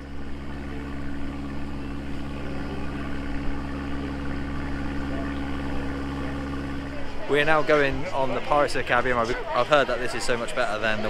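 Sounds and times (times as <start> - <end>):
ship engine humming: 0.0 - 11.0.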